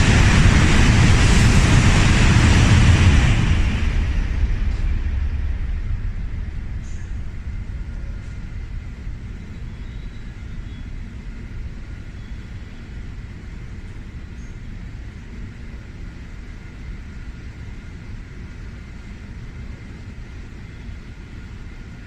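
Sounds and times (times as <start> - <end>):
station platform rumble: 0.0 - 22.0.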